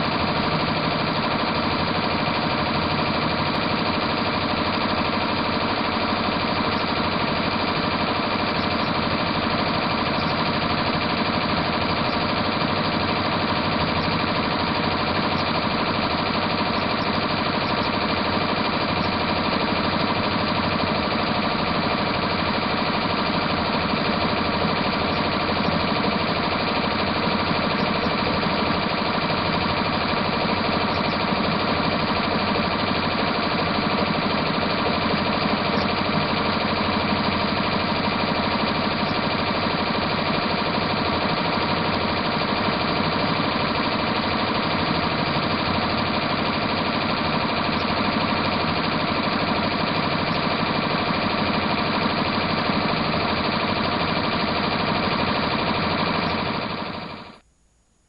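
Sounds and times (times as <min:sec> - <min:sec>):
embroidery machine clattering: 0:00.0 - 0:57.2.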